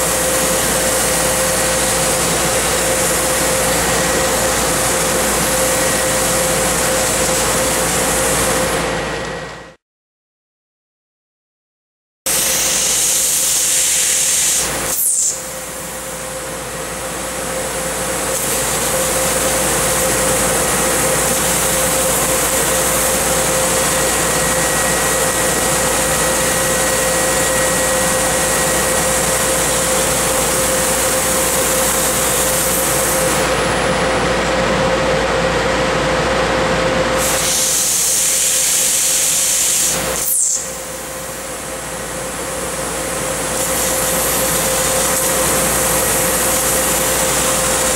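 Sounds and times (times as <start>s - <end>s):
laser cutter hissing: 0.0s - 8.8s, 12.3s - 33.7s, 37.2s - 47.9s
steady hum: 0.0s - 9.8s, 12.3s - 47.9s.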